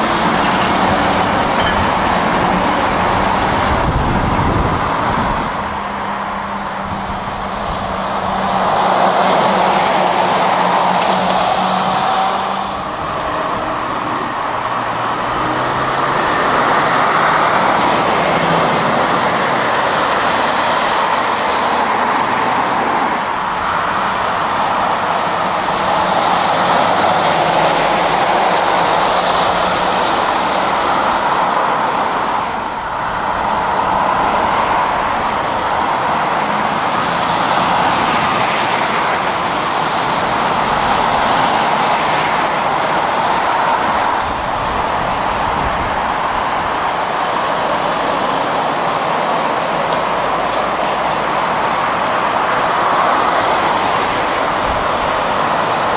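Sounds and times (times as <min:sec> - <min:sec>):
heavy lorries driving past: 0:00.0 - 0:55.9
tyre noise on wet road: 0:00.0 - 0:55.9.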